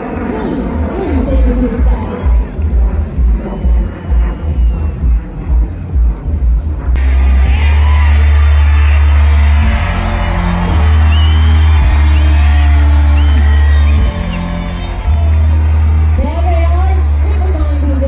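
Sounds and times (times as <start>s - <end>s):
heavy bass line: 0.0s - 18.0s.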